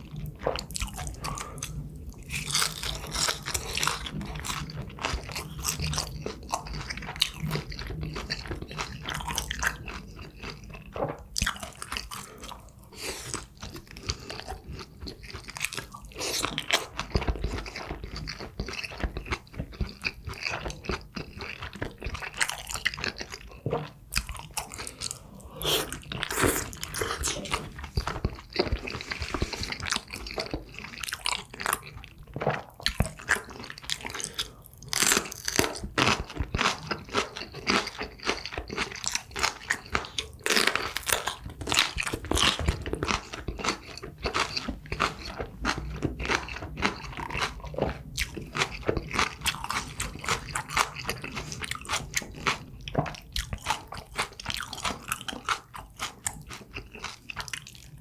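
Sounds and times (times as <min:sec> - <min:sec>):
person chewing crunchy food: 0:00.0 - 0:58.0.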